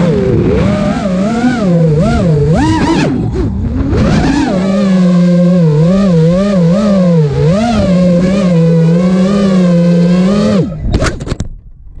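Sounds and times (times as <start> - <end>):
drone motors whining: 0.0 - 11.4.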